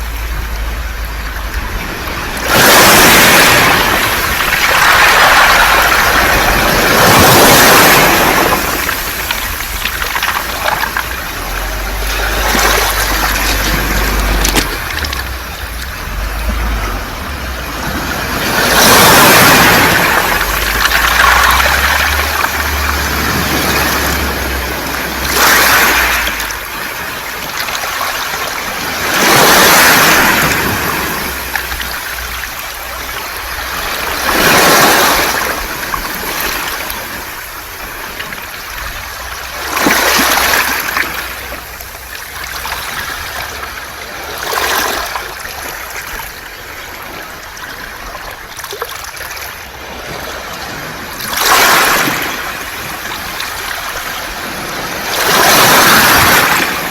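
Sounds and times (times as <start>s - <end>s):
waves washing over pebbles: 0.0s - 56.9s.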